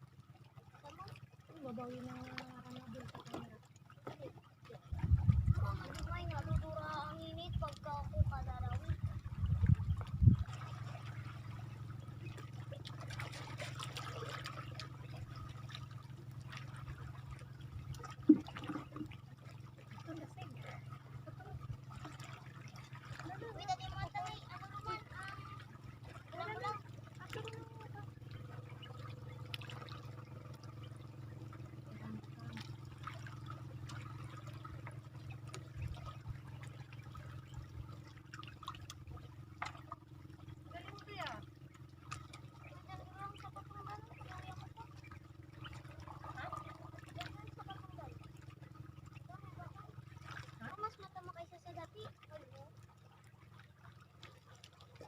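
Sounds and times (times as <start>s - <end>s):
seawater lapping at shoreline: 0.0s - 55.0s
small splashes: 0.0s - 55.0s
steady low hum: 0.0s - 55.0s.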